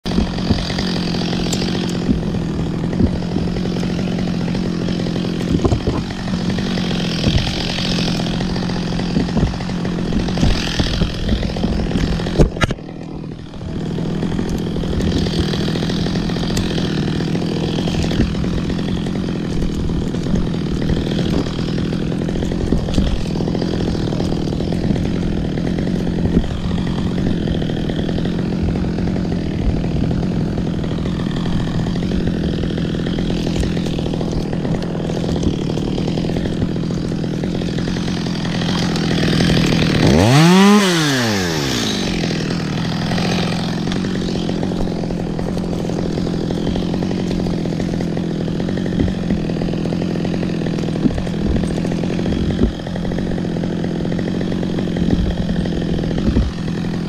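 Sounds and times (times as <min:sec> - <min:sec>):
chainsaw engine running: 0:00.0 - 0:57.0.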